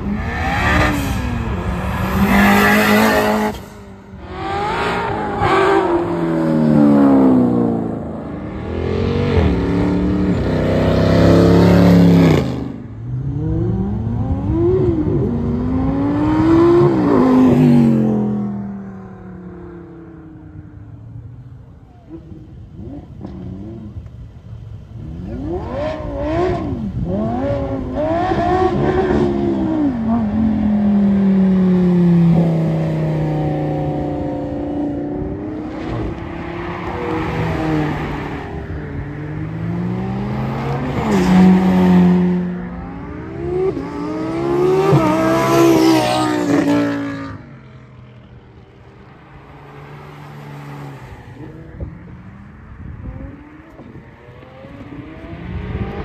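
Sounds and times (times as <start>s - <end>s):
sports cars accelerating: 0.0s - 56.0s.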